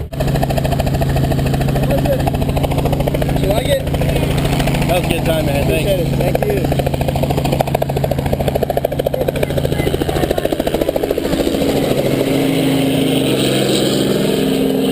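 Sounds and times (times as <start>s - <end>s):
engine drone: 0.0s - 14.9s
helicopter rotor chopping: 0.0s - 14.9s.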